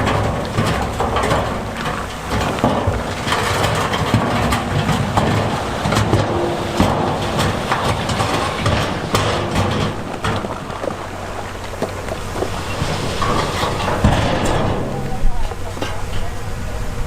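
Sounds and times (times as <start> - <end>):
rocks knocking and crunching: 0.0 - 16.4
heavy diesel engine running: 0.0 - 17.0.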